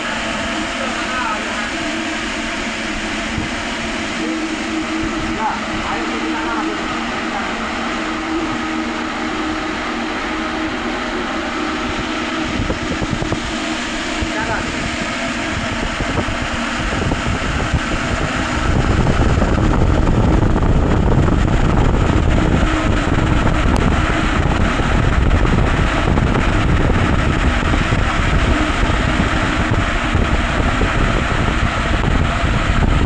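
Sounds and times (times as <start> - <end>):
motor running: 0.0 - 33.0.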